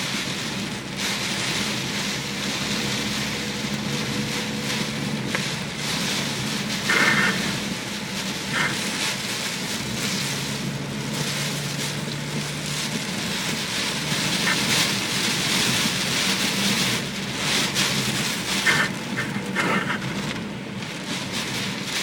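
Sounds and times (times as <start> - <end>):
floodwater rushing: 0.0 - 22.0
rain: 0.0 - 22.0.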